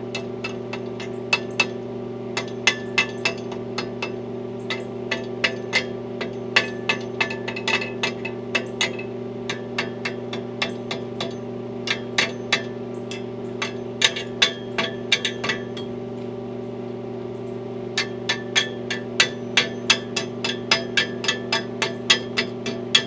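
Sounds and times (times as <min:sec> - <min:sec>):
hammer striking steel: 0:02.4 - 0:15.9, 0:18.0 - 0:23.0.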